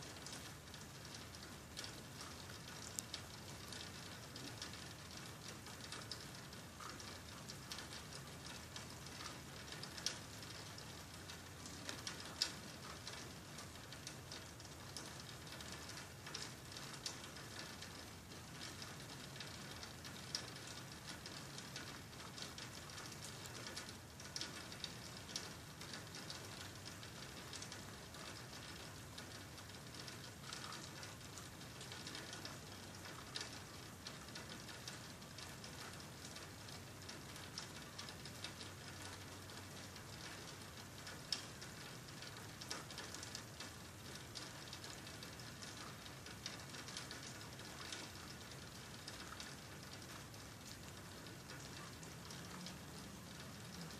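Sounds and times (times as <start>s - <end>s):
light rain: 0.0s - 53.9s.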